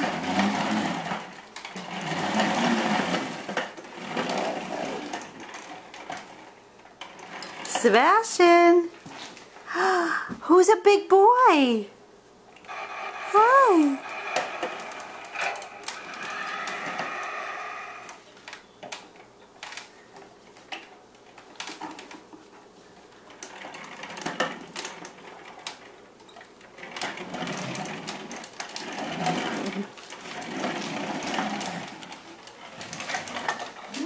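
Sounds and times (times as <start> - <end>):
plastic wheels rolling on wooden floor: 0.0 - 9.5, 12.6 - 34.0.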